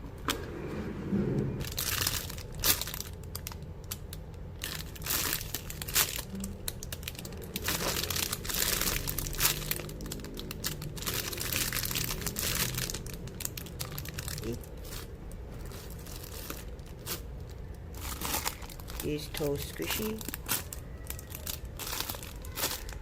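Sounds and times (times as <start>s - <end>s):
plastic packaging crinkling: 1.6s - 23.0s.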